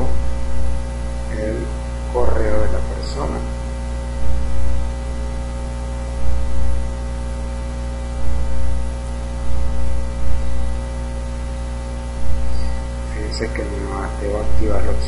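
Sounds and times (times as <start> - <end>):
electrical mains hum and hiss: 0.0 - 15.0
low rumble: 0.0 - 15.0
thin steady tones: 0.0 - 15.0.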